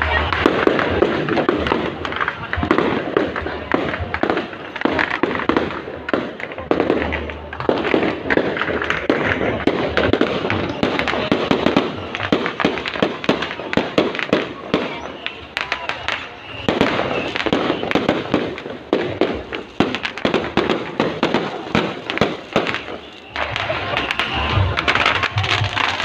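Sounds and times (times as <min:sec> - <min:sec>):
fireworks cracking and popping: 0:00.0 - 0:26.0.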